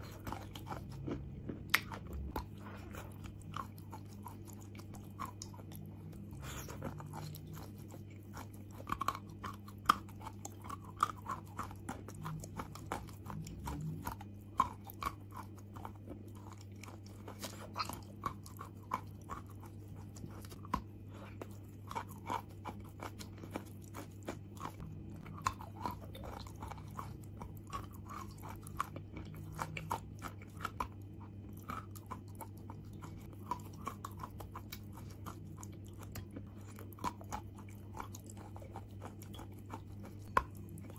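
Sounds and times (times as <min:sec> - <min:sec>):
crunching and chewing chalk: 0:00.0 - 0:40.9
steady low hum: 0:00.0 - 0:40.9.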